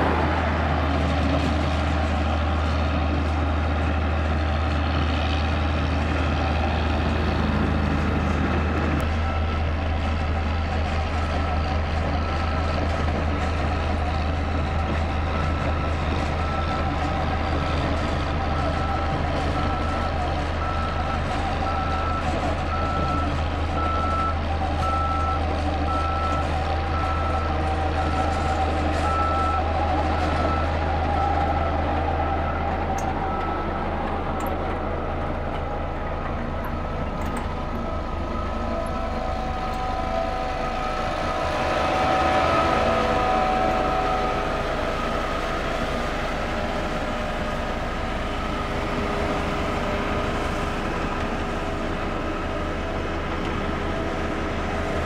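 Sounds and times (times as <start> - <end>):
diesel road roller engines: 0.0 - 55.0
reversing alarm beeping: 9.0 - 35.3, 36.5 - 55.0.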